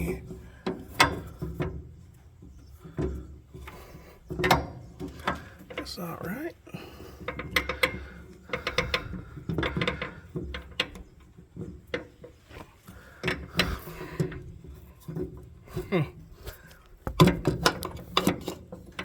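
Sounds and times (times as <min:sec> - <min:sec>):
hand tools clanking on metal: 0:00.0 - 0:19.0.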